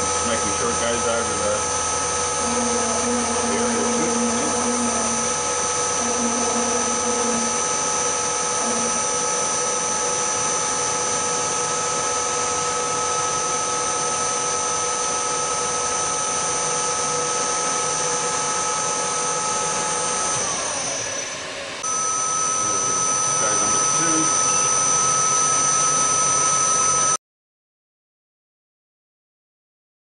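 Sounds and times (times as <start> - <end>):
milling machine spindle whine: 0.0 - 27.2.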